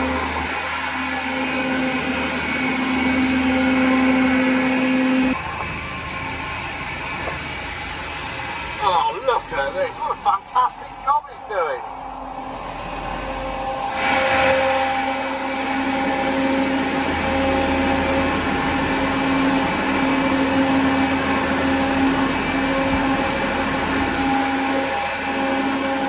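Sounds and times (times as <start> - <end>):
blower fan air rush: 0.0 - 26.0
engine hum: 0.0 - 26.0.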